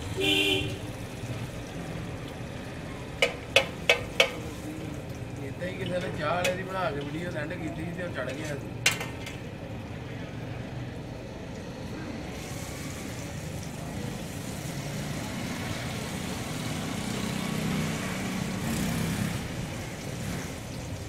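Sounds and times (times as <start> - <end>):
liquid sizzling on hot metal: 0.0 - 9.9, 11.5 - 21.0
patties frying on a griddle: 0.9 - 9.4, 11.2 - 21.0.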